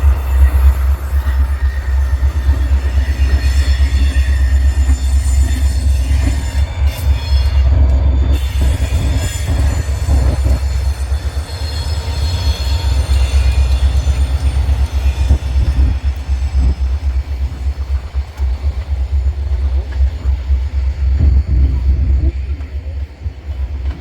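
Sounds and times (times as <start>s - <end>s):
freight train rumbling past: 0.0s - 24.0s
wheel squeal on rails: 0.0s - 24.0s.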